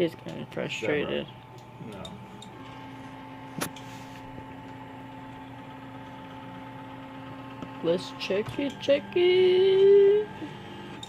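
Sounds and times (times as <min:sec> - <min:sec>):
printer motors humming and whining: 0:00.0 - 0:11.0.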